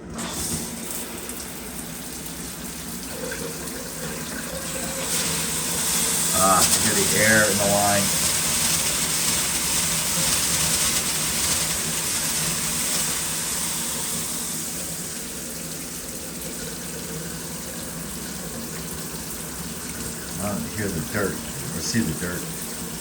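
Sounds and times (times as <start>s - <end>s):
shower water gushing: 0.0s - 23.0s.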